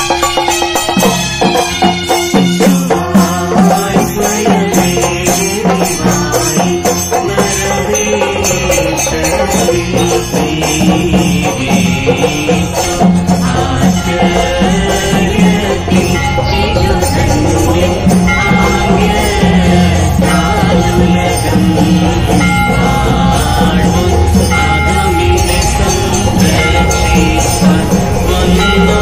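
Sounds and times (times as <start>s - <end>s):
drums beaten rapidly with sticks: 0.0s - 29.0s.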